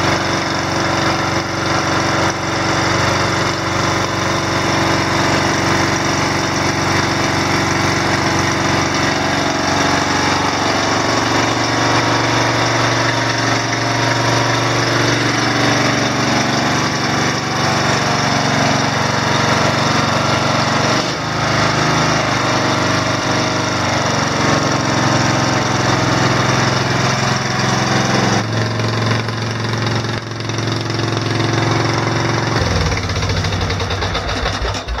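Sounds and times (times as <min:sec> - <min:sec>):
small engine running without muffler: 0:00.0 - 0:35.0.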